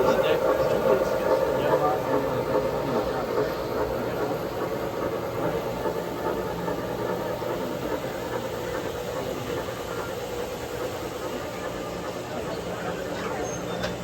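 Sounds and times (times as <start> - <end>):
model trains rumbling: 0.0 - 14.0.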